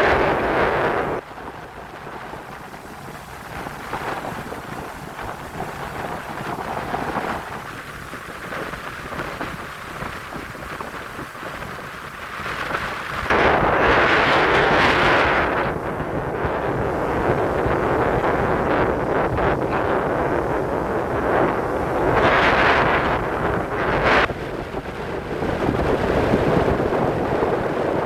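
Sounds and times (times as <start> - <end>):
rough surf: 0.0 - 28.0
wind buffeting microphone: 0.0 - 28.0.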